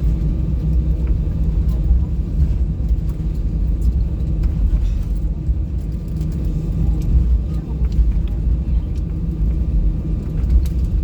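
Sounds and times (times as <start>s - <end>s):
vehicle interior low rumble: 0.0s - 11.0s.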